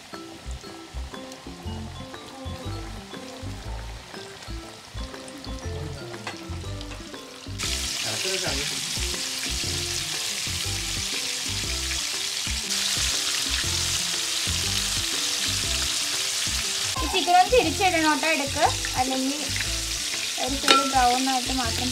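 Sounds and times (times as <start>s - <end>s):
chicken deep-frying in oil: 0.0s - 21.9s.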